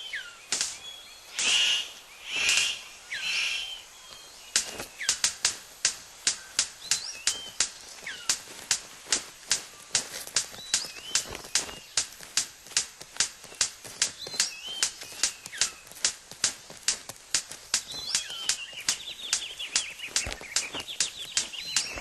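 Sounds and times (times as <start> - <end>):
birds chirping: 0.0 - 22.0
sharp bird clicks: 0.0 - 22.0.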